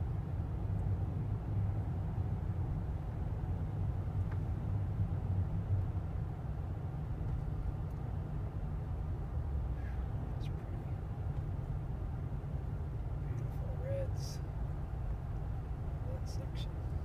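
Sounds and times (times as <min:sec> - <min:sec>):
car driving heard from inside: 0:00.0 - 0:17.0.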